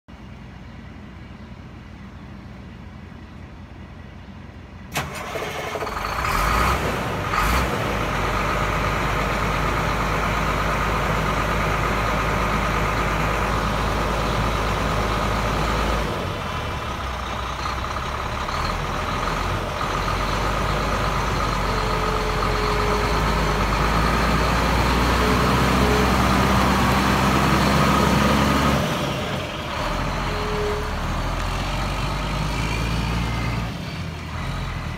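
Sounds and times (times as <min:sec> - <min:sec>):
diesel truck engine starting and idling: 0:00.2 - 0:34.9.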